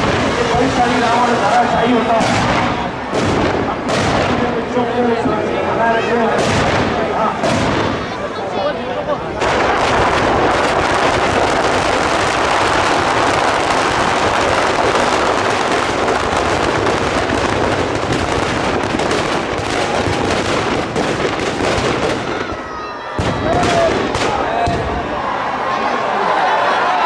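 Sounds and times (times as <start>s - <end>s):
firecrackers crackling: 0.0s - 25.2s.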